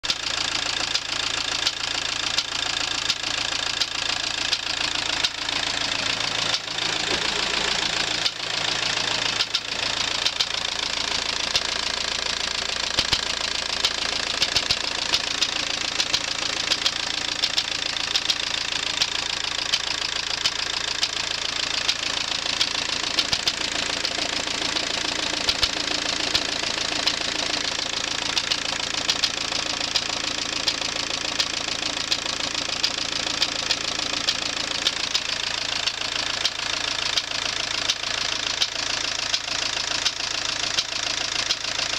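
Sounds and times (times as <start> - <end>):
diesel engine running: 0.0 - 41.9
engine knock tapping: 0.0 - 41.9.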